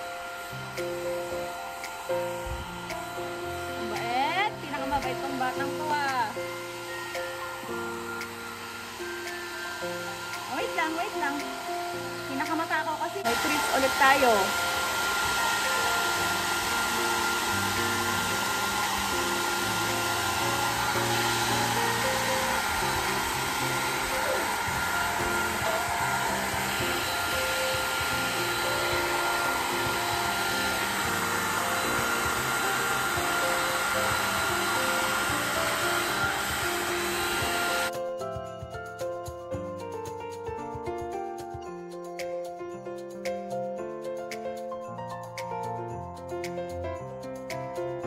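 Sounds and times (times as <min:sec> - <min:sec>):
blow dryer running with high whine: 0:00.0 - 0:38.6
background music: 0:00.0 - 0:48.0.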